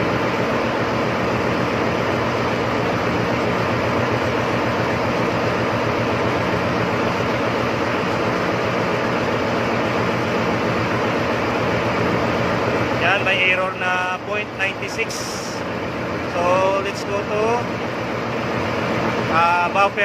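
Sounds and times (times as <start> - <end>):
low hum of steady tones: 0.0 - 20.0
ship engine room machinery din: 0.0 - 20.0.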